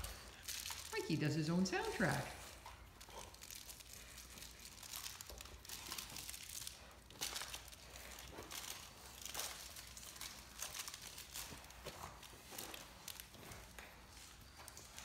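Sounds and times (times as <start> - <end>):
plush toy crinkling: 0.0 - 15.0.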